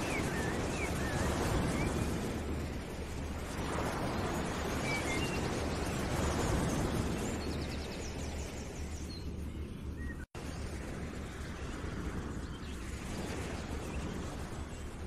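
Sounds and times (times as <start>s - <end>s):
rushing outdoor ambience: 0.0s - 15.0s.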